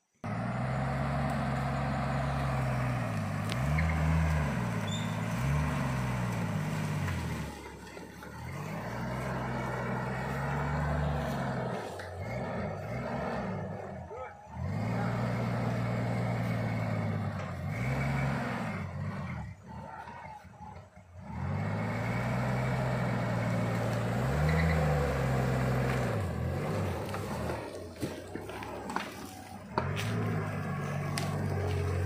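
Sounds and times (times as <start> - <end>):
vehicle engine crawling: 0.0 - 32.0.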